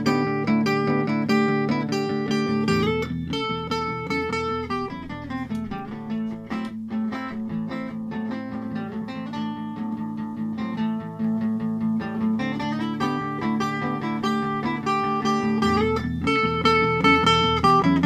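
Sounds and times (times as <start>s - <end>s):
acoustic guitar strummed: 0.0s - 18.0s
looped guitar phrase: 0.0s - 18.0s.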